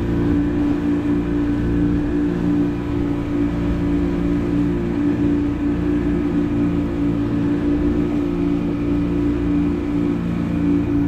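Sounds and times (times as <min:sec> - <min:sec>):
motorboat engine droning: 0:00.0 - 0:11.0
wind and water rushing: 0:00.0 - 0:11.0.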